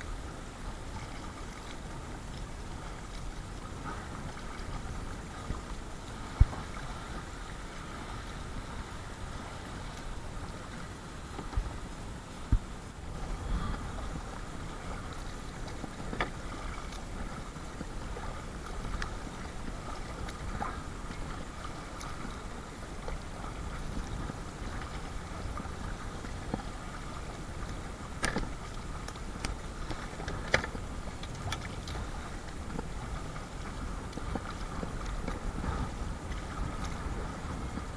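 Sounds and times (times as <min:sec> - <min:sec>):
water against kayak hull: 0:00.0 - 0:37.9
wind on microphone: 0:00.0 - 0:37.9.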